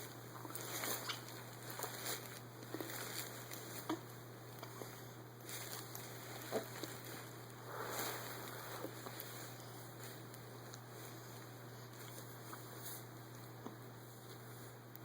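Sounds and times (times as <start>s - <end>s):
steady low hum: 0.0s - 15.0s
faint rustles: 0.4s - 15.0s.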